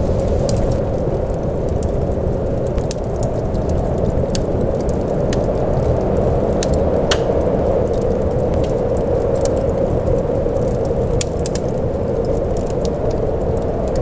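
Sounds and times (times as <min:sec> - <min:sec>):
steady rain: 0:00.0 - 0:14.0
sharp crackling ticks: 0:00.5 - 0:14.0.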